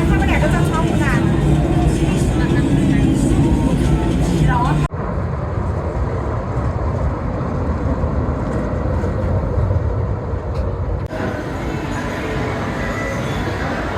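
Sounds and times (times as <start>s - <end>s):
tram rumbling on rails: 0.0s - 13.9s.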